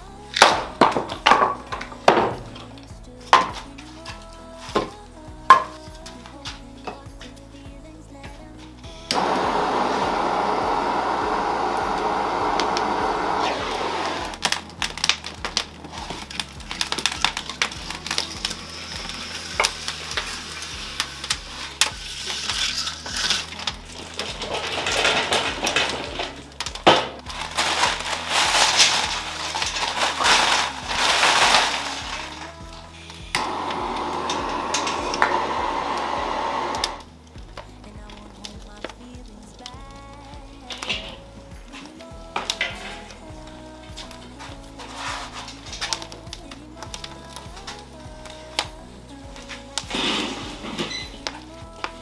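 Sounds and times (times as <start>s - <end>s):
quiet background music: 0.0s - 52.0s
utensils clicking and scraping: 9.1s - 52.0s.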